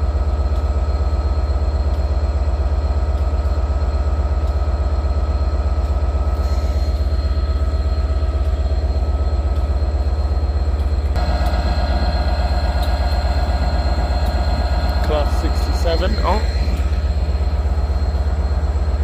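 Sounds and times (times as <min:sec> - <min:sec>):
steady whines: 0:00.0 - 0:19.0
train engine rumble: 0:00.0 - 0:19.0.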